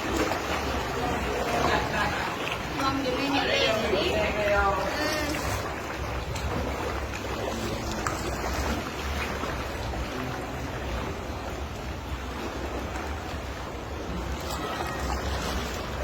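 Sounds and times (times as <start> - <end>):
sea water washing and splashing: 0.0 - 16.0.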